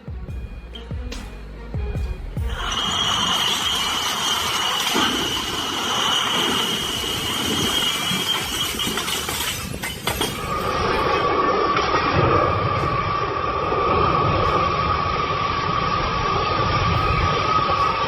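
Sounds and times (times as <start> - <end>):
lower whine: 0.0 - 9.4, 10.2 - 18.0
heavy rumbling machine noise: 0.0 - 18.0
high-pitched metallic squeal: 0.0 - 18.0.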